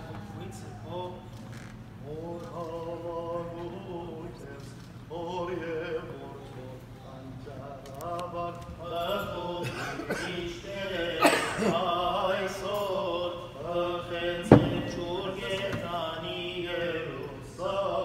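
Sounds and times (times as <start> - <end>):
man chanting liturgy: 2.0 - 18.0.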